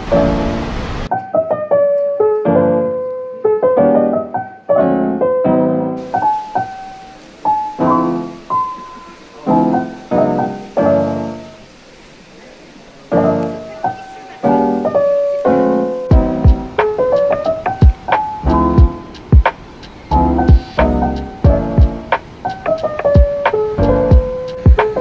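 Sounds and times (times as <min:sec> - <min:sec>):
soft piano music: 0:00.0 - 0:25.0.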